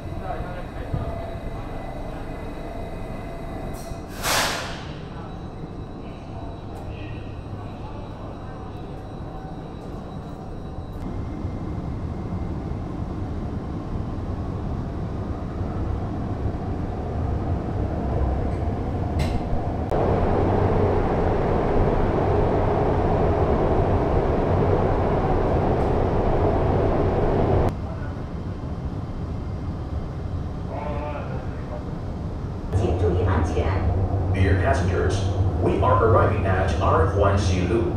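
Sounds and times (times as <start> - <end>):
metro train rumbling: 0.0 - 37.9.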